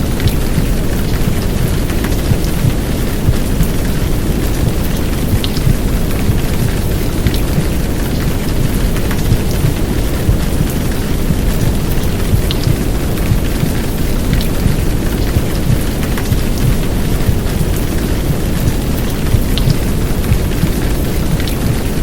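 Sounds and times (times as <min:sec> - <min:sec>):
heavy rain: 0:00.0 - 0:22.0
deep womb sound: 0:02.2 - 0:22.0.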